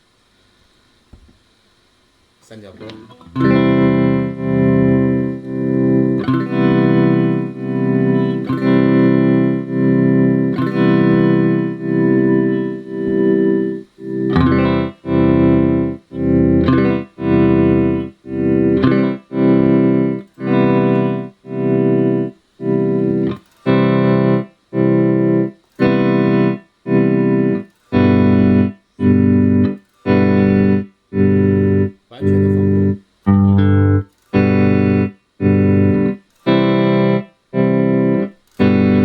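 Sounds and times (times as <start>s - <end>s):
electric guitar chord with tremolo: 2.8s - 39.0s.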